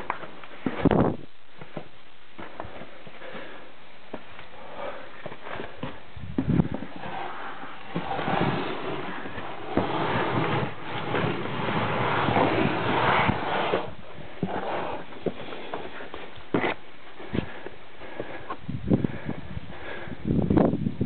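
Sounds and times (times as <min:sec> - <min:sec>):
clothing rustling against rock: 0:00.0 - 0:20.0.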